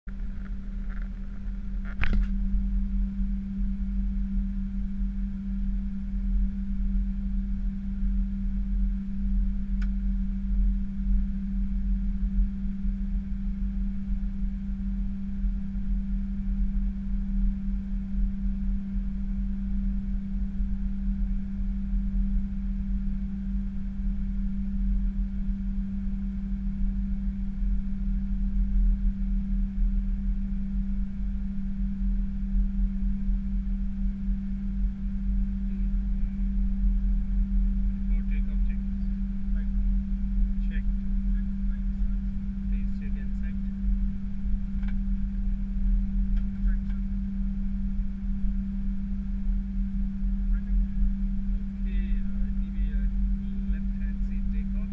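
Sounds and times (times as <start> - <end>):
aircraft cockpit rumble: 0.0 - 54.9.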